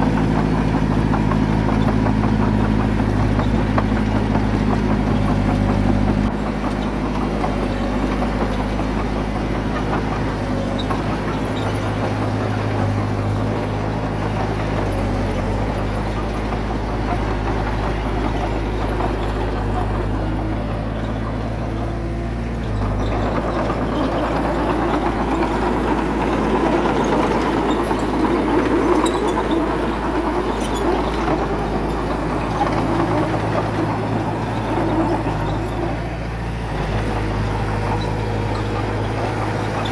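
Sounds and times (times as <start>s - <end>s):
heavy machinery diesel engine: 0.0s - 39.9s
loud rough machine noise: 0.0s - 39.9s.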